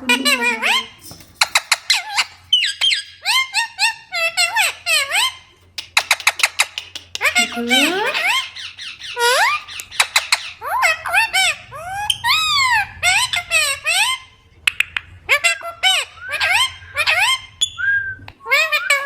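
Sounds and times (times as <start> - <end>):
parrots chattering: 0.0 - 19.0.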